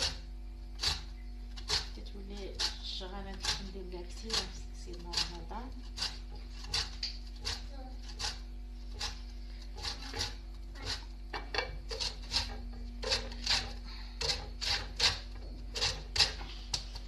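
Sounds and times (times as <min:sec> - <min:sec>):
grater rasping on peel: 0:00.0 - 0:00.2, 0:00.8 - 0:17.0.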